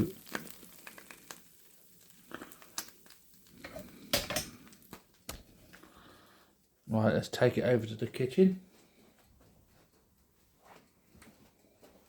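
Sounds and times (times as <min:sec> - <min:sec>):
faint sizzling of frying food: 0:00.0 - 0:12.0.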